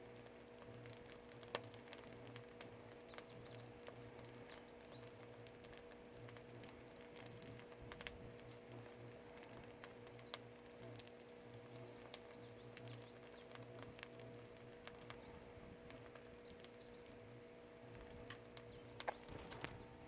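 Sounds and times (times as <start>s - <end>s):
faint steady hum: 0.0s - 20.0s
firewood crackling and popping: 0.0s - 20.0s.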